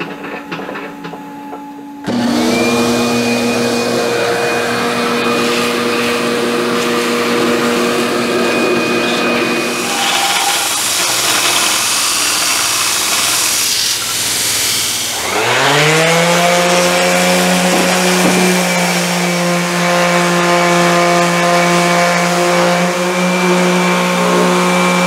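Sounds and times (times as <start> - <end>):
shop vacuum motor whining: 0.0 - 25.0
belt grinder grinding steel: 2.1 - 25.0.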